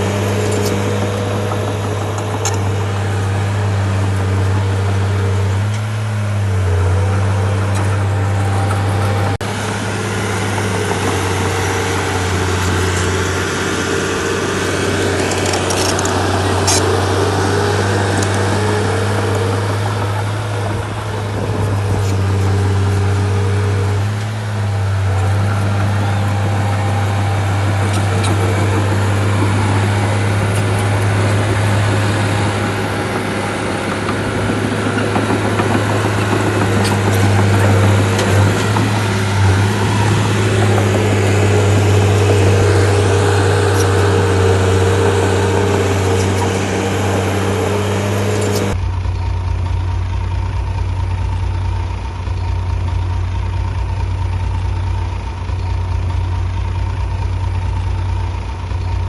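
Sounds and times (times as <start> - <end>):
bulldozer diesel engine running: 0.0 - 59.0
engine idling with low throb: 0.0 - 59.0.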